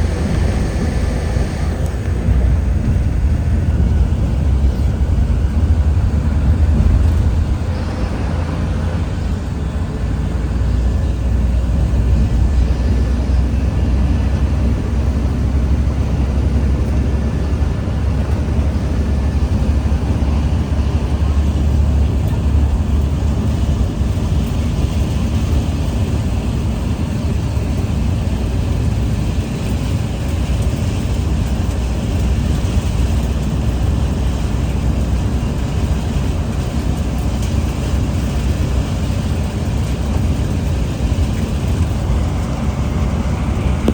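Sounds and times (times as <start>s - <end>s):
car tyres and engine rumbling: 0.0s - 43.9s.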